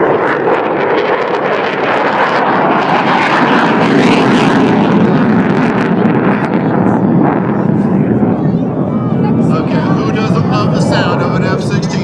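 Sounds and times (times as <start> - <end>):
airplane flying low: 0.0 - 12.0.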